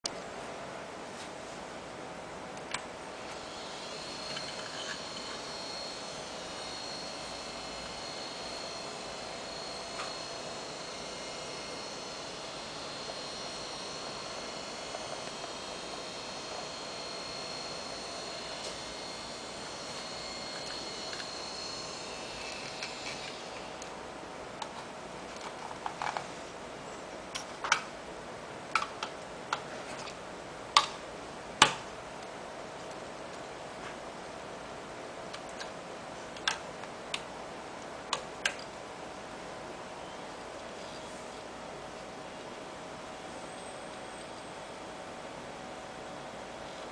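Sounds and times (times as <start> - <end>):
hard drive high-pitched whine: 0.1 - 46.9.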